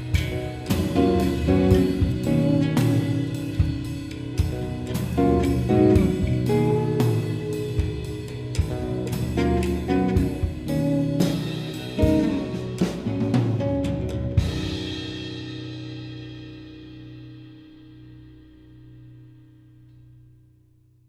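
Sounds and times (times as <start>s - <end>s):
drum kit with cymbals: 0.0s - 18.6s
electric guitars ringing chords: 0.0s - 20.2s.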